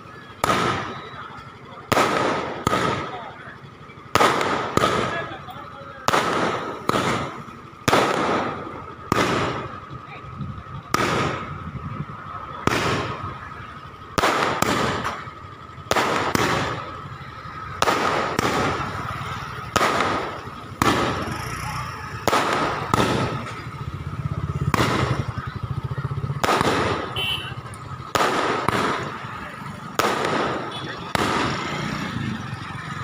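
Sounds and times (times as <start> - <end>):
firecrackers banging: 0.0 - 33.0.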